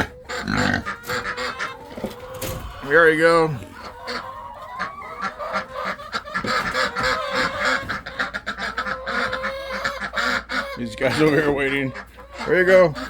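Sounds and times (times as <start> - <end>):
farm poultry calling: 0.0 - 13.0.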